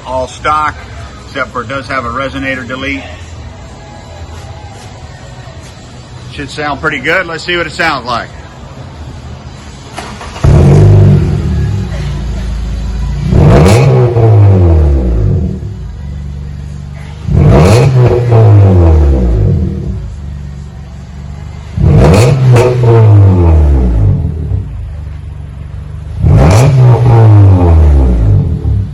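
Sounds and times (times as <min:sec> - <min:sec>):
car engine revving and idling: 0:05.1 - 0:28.9.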